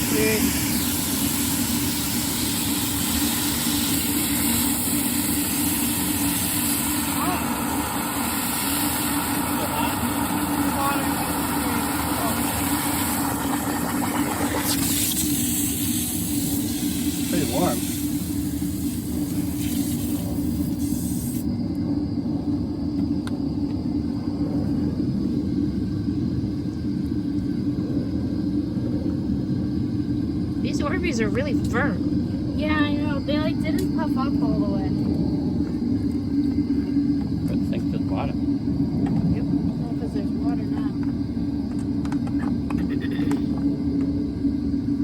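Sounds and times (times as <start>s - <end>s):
gas torch roaring: 0.0s - 45.0s.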